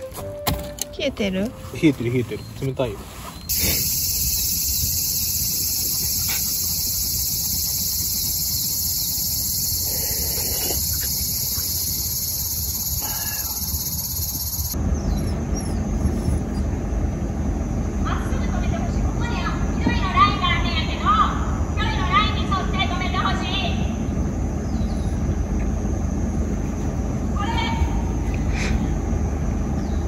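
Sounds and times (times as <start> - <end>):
cicadas droning: 1.7 - 30.0
low outdoor rumble: 3.8 - 30.0.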